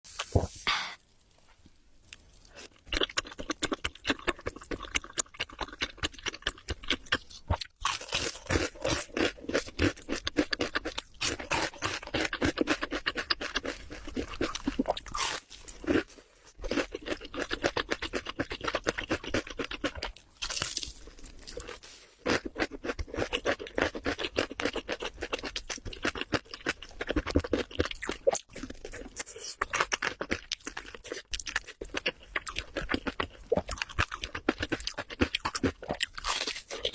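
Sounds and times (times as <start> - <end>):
chewing crunchy food: 2.1 - 36.9.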